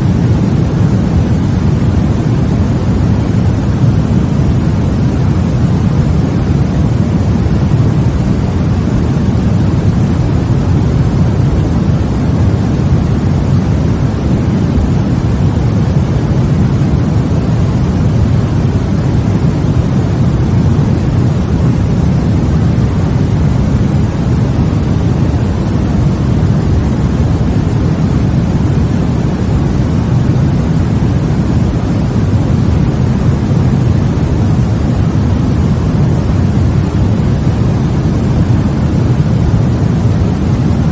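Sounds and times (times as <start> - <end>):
steady white noise: 0.0 - 40.9.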